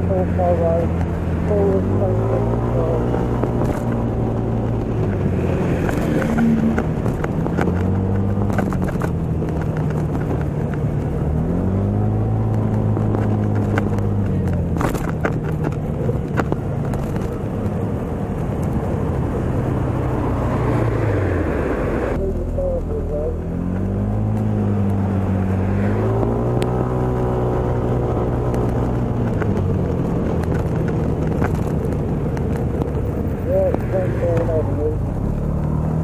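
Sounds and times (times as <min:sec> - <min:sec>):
road and wind noise: 0:00.0 - 0:36.0
vehicle engine revving: 0:00.0 - 0:36.0.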